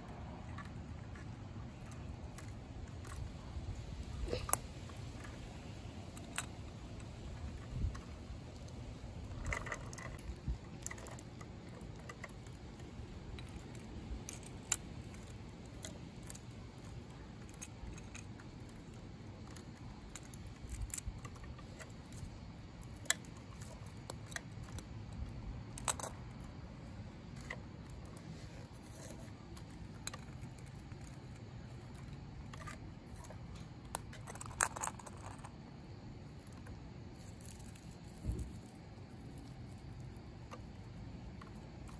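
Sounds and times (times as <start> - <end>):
low background rumble: 0.0 - 41.9
toy trucks clicking and rattling: 0.0 - 41.9.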